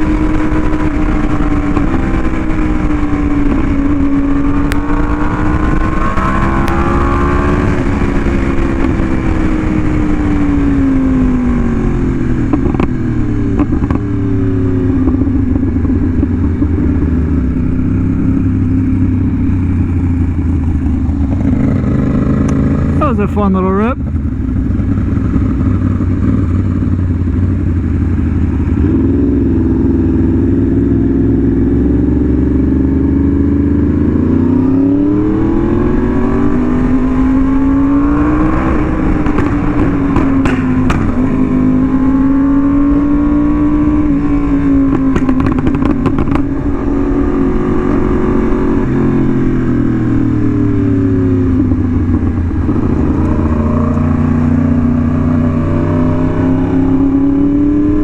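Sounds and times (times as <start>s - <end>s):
exhaust crackles: 0.0s - 29.6s, 35.9s - 58.0s
motorcycle engine revving: 0.0s - 58.0s.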